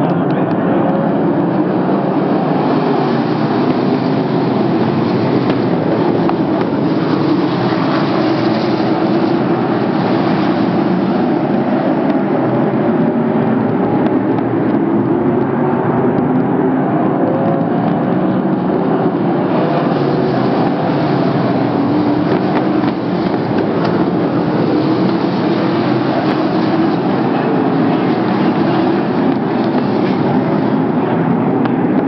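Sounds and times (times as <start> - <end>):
race car engines droning: 0.0 - 32.0.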